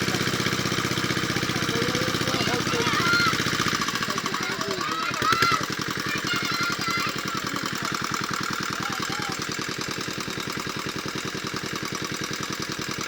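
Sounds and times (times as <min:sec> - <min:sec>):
small engine knocking: 0:00.0 - 0:13.0.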